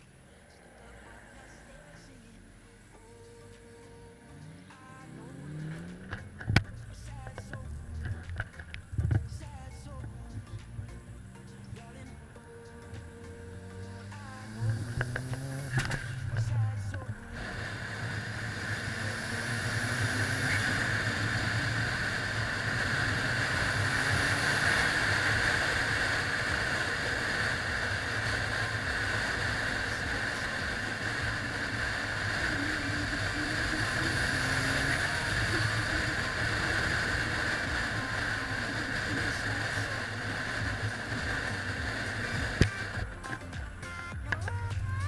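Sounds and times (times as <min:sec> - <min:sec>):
car engine and tyre noise: 0:00.0 - 0:45.0.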